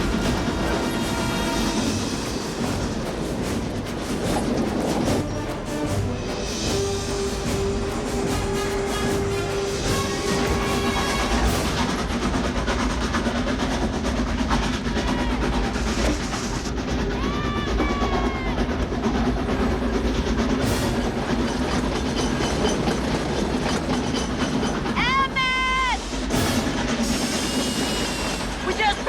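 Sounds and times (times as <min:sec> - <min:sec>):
film music: 0:00.0 - 0:29.0
steam locomotive running: 0:00.0 - 0:29.0.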